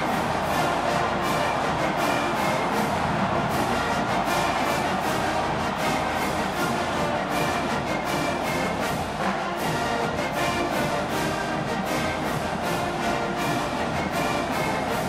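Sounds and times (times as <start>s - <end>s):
brass instruments holding notes: 0.0s - 15.0s.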